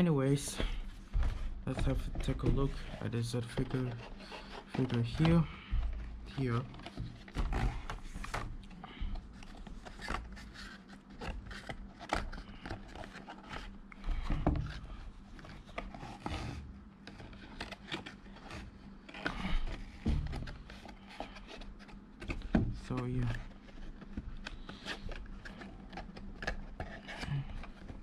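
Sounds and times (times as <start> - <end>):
cardboard and plastic packaging rustling: 0.0 - 28.0.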